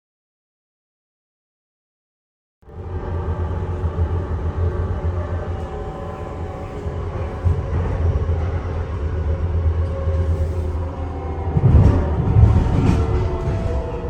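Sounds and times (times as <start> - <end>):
train rumbling: 2.6 - 14.0.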